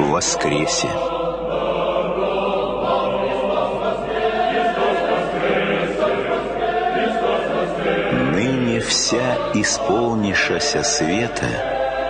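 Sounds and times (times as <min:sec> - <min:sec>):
church choir chanting: 0:00.0 - 0:12.0.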